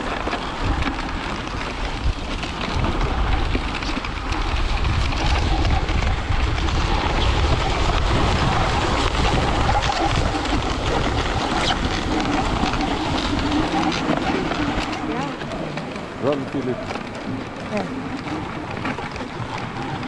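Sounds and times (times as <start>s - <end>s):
sled runners scraping on snow: 0.0s - 20.0s
wind buffeting microphone: 0.0s - 20.0s.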